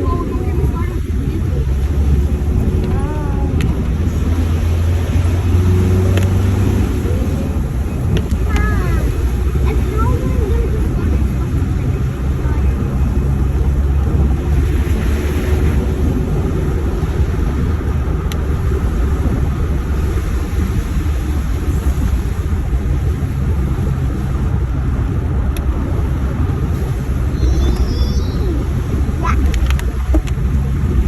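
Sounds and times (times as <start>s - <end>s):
vehicle driving rumble: 0.0s - 31.0s.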